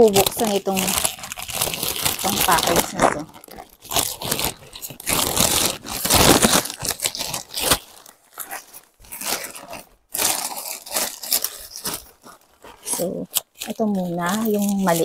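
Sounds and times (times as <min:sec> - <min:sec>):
plastic bag crinkling and tearing: 0:00.0 - 0:15.0.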